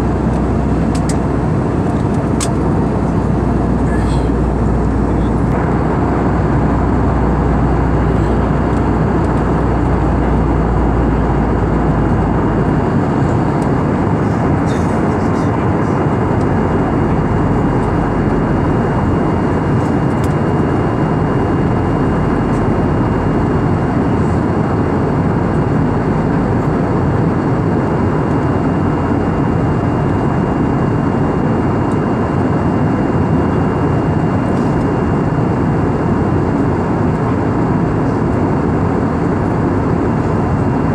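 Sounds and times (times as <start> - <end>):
aircraft cabin engine roar: 0.0 - 40.9.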